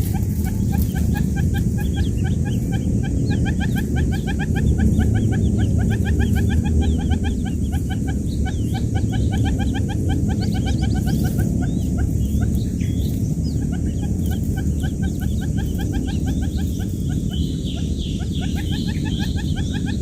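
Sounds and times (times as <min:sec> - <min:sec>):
quail chicks peeping: 0:00.0 - 0:20.0
steady low rumble: 0:00.0 - 0:20.0.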